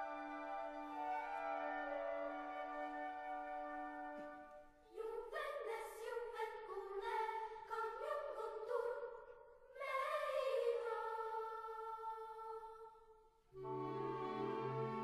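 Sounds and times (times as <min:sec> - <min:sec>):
classical voices singing: 0:00.0 - 0:15.0.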